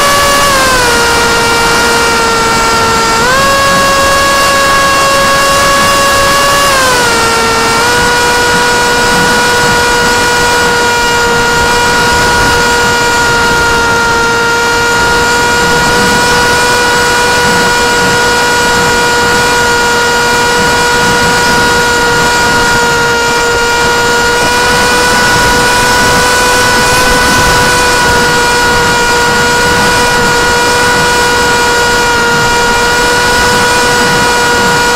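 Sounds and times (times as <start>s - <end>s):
small electric motor whine: 0.0s - 34.9s.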